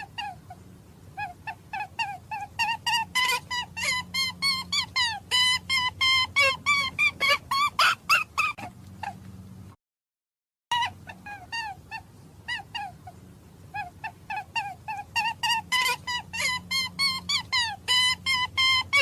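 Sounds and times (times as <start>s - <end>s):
high-pitched animal squeaks: 0.0s - 0.6s, 1.2s - 9.2s, 10.7s - 19.0s.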